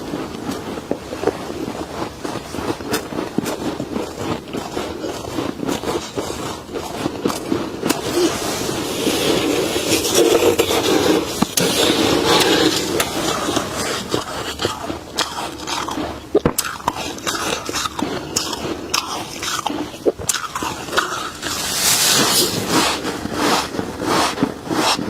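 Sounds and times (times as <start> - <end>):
frost crunching: 0.0 - 25.0.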